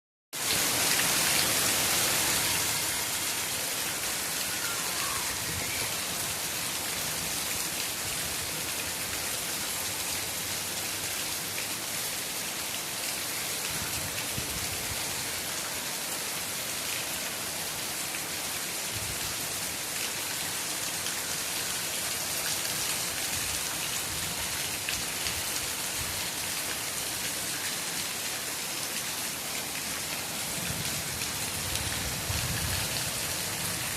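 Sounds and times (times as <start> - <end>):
steady rain falling: 0.4 - 33.9.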